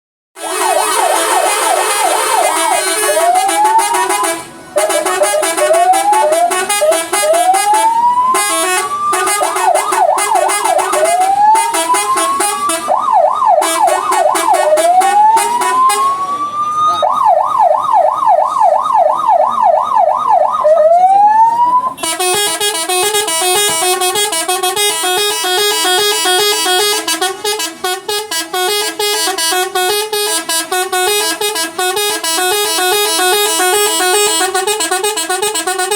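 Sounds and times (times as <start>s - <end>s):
multi-note bus horn tune: 0.4s - 16.2s, 22.0s - 35.9s
bus siren-effect horn whooping: 0.4s - 35.9s.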